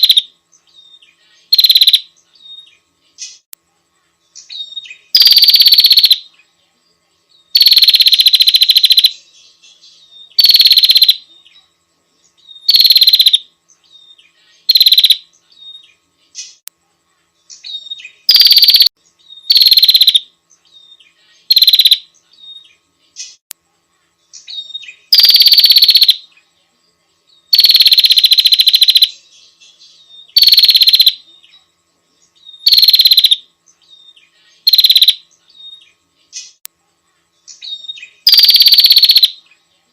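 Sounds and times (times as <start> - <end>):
songbird buzzing trills: 0.0 - 39.9.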